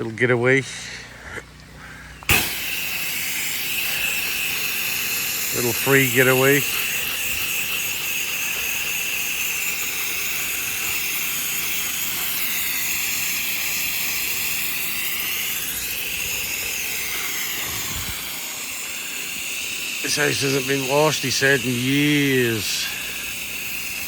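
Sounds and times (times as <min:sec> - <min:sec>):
high whine: 0:02.2 - 0:24.0
sprayer hissing: 0:02.2 - 0:24.0.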